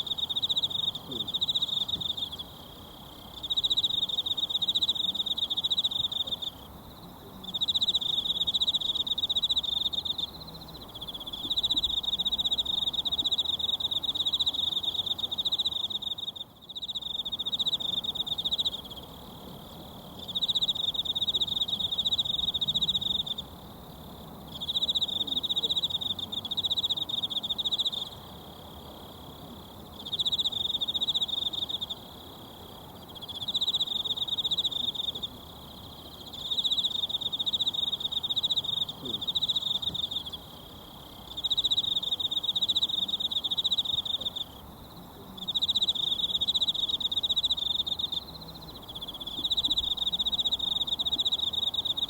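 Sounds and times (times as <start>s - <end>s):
high pulsing insect trill: 0.0s - 52.0s.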